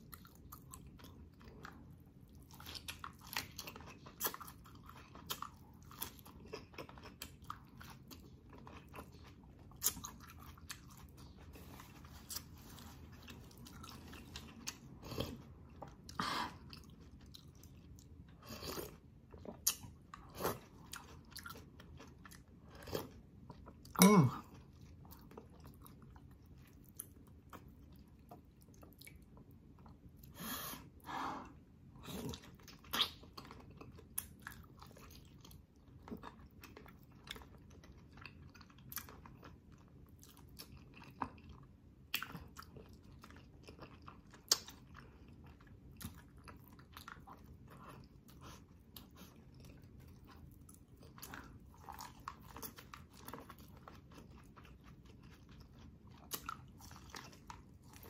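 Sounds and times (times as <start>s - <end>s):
person chewing and smacking: 0.0s - 58.0s.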